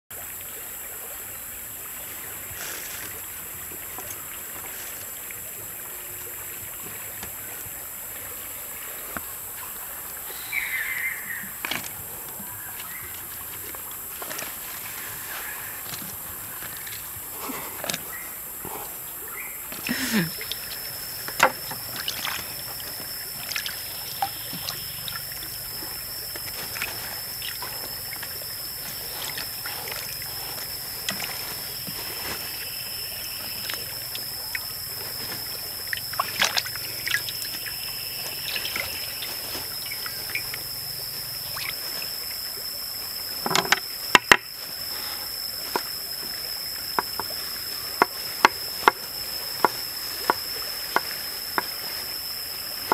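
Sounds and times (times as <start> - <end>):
water splashing and trickling: 0.1 - 52.9.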